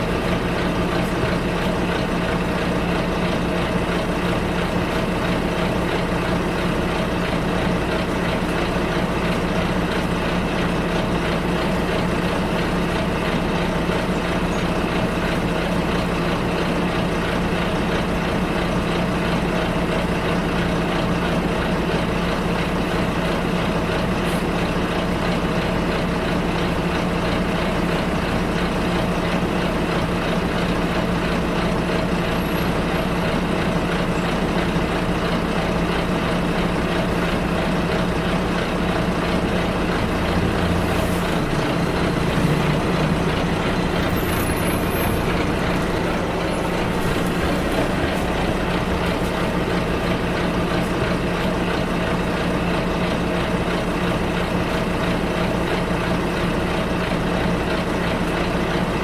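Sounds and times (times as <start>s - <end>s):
bus engine humming: 0.0s - 59.0s.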